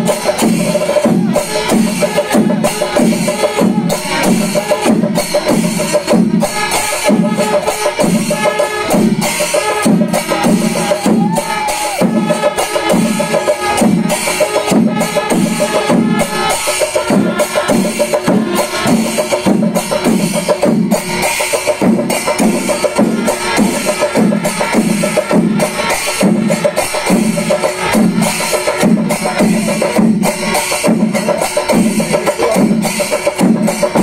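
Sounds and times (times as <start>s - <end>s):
drums beaten with sticks: 0.0s - 34.0s
ringing brass cymbals: 0.0s - 34.0s.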